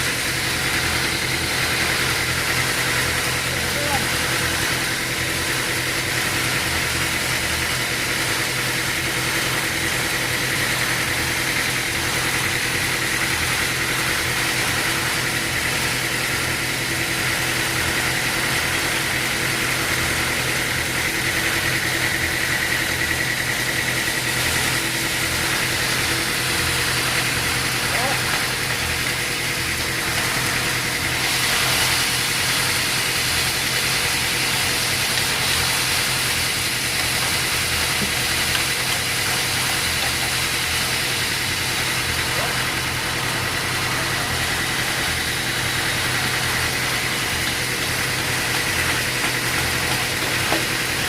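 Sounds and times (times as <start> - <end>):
sawmill machinery humming and whining: 0.0 - 51.0.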